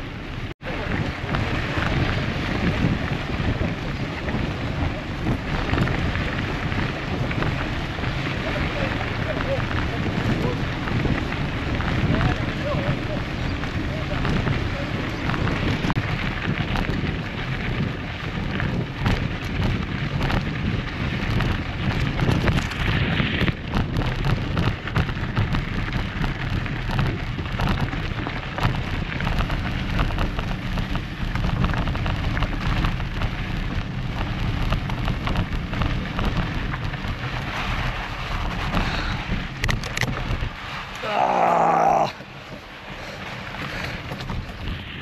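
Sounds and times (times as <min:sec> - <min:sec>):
bike tyres crackling on gravel: 0:00.0 - 0:45.0
wind rumble on microphone: 0:00.0 - 0:45.0.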